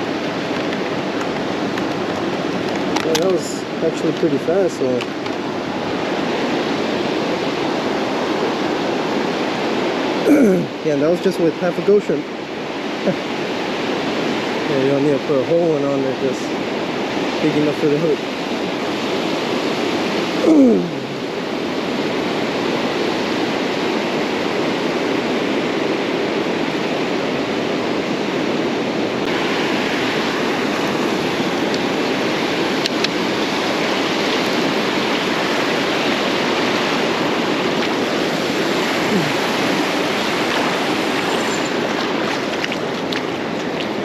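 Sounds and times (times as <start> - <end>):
ocean surf breaking on beach: 0.0 - 44.0.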